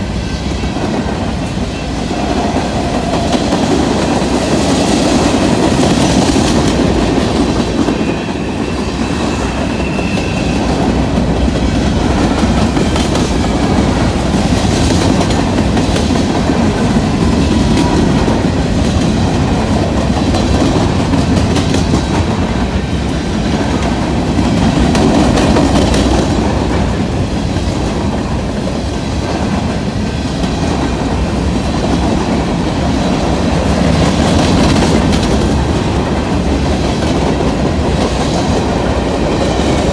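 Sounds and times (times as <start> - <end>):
train rumbling past: 0.0 - 39.9
wheels clacking over rail joints: 0.4 - 39.9.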